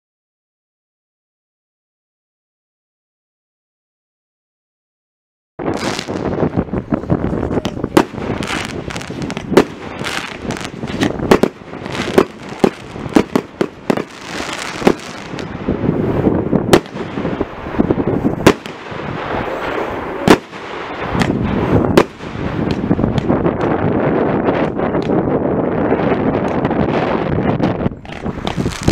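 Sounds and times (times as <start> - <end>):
fireworks bangs: 5.6 - 28.9
small popping fireworks: 5.6 - 28.9.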